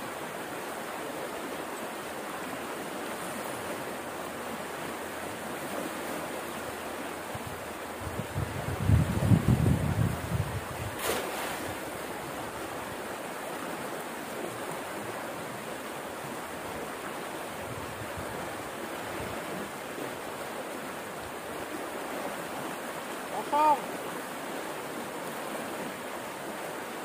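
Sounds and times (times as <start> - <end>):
stream rushing over rapid: 0.0 - 27.0.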